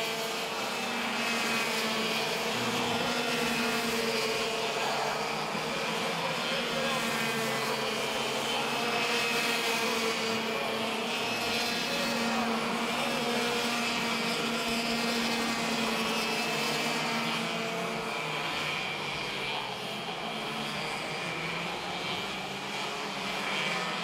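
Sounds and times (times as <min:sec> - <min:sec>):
go-kart engines droning: 0:00.0 - 0:24.0.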